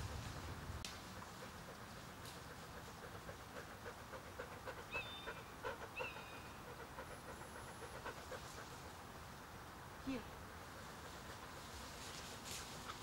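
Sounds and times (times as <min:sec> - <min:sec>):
dog panting: 0:01.0 - 0:09.2, 0:09.8 - 0:13.0.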